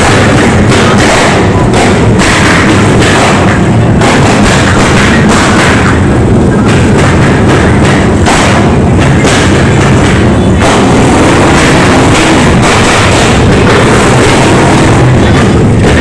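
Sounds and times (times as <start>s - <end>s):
dirt bike engine running loudly: 0.0s - 16.0s
music with steady beat: 0.0s - 16.0s.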